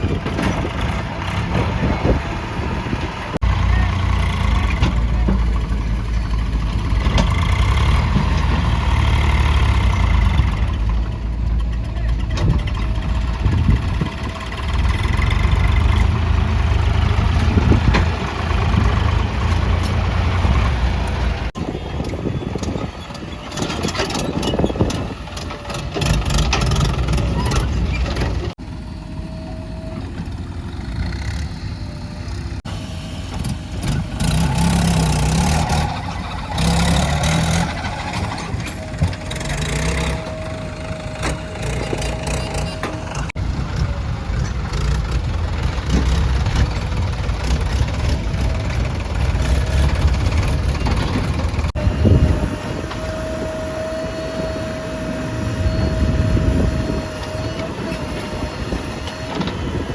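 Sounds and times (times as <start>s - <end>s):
diesel engines working: 0.0s - 59.9s.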